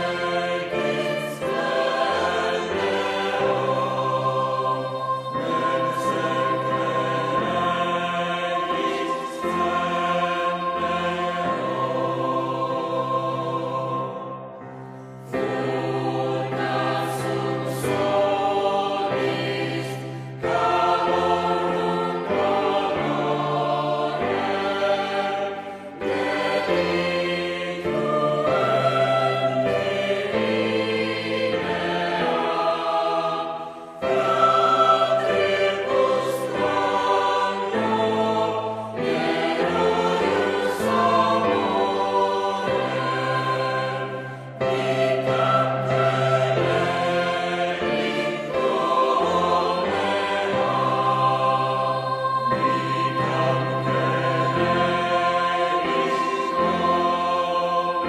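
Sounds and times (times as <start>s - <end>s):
choir singing held chords: 0.0s - 58.0s.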